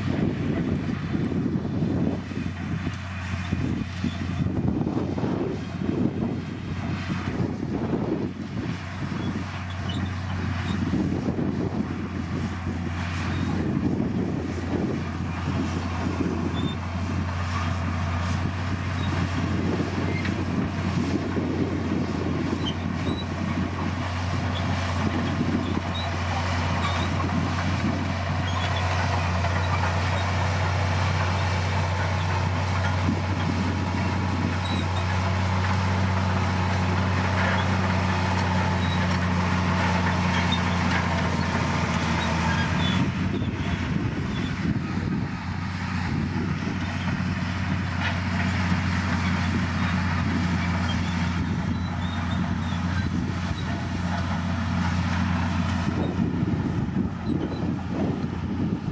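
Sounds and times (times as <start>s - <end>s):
bulldozer diesel engine drone: 0.0s - 58.9s.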